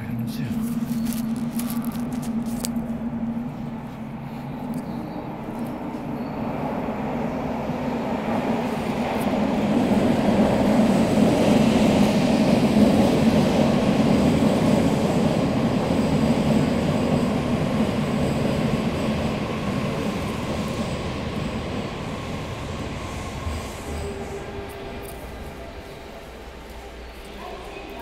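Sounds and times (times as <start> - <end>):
subway train rumbling: 0.0 - 28.0.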